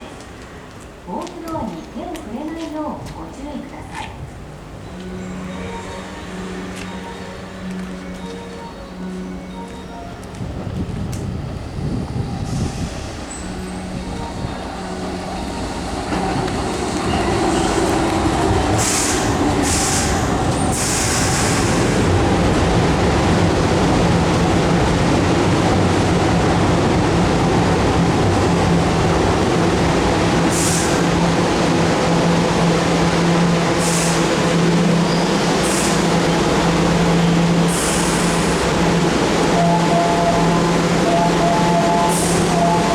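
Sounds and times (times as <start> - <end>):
train motors and wheels rumbling: 0.0 - 42.9.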